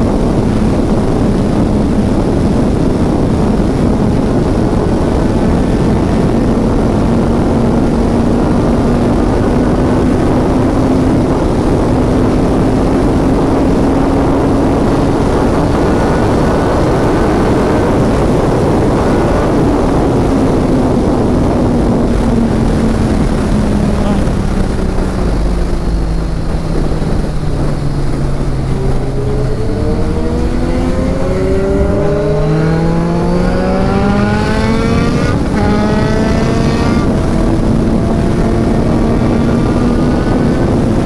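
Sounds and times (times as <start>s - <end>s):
motorcycle engine hum: 0.0s - 41.0s
wind noise on microphone: 0.0s - 41.0s.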